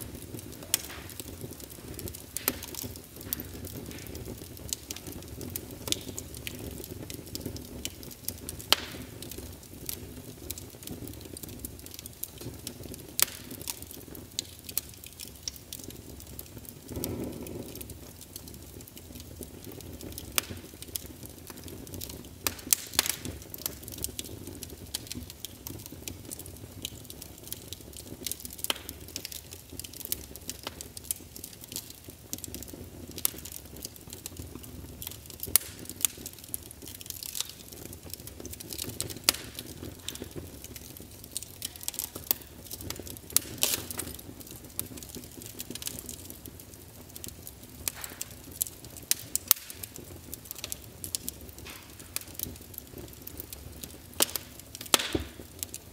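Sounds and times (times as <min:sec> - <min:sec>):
fire popping and snapping: 0:00.0 - 0:55.9
low rushing of fire: 0:00.0 - 0:55.9.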